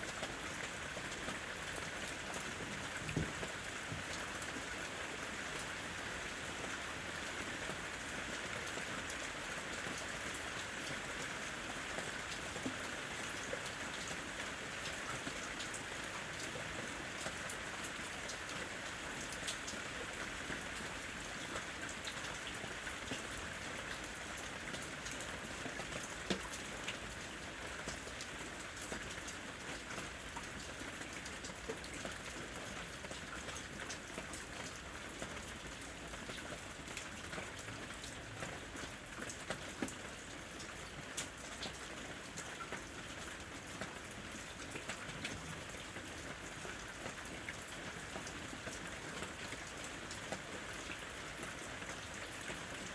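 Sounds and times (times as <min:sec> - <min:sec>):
rain on a roof: 0:00.0 - 0:52.9.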